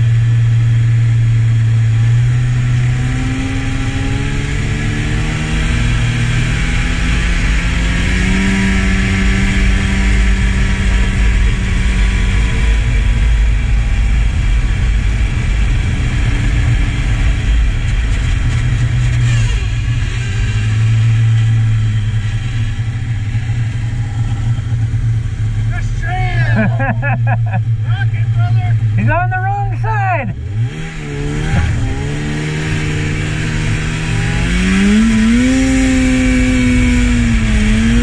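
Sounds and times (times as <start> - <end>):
snowmobile engine running: 0.0 - 38.0
steady rushing noise: 2.6 - 38.0.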